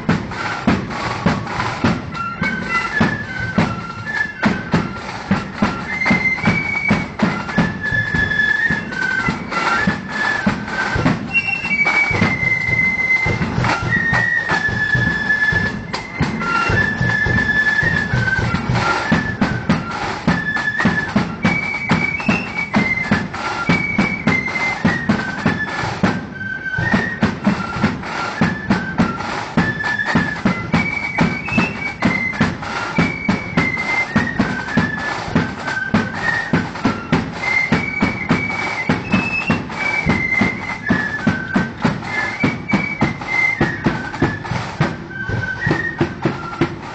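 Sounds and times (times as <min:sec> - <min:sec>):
drums beating: 0:00.0 - 0:46.9
flute melody: 0:00.0 - 0:46.9.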